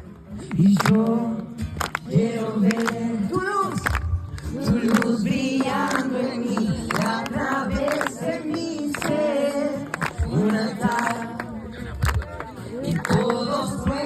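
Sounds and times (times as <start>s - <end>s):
group singing a worship song: 0.4s - 11.8s, 12.6s - 14.0s.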